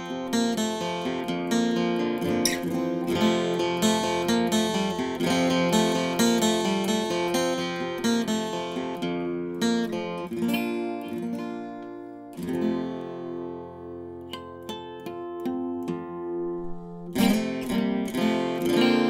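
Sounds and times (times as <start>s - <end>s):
acoustic guitar picked and strummed: 0.0s - 19.0s.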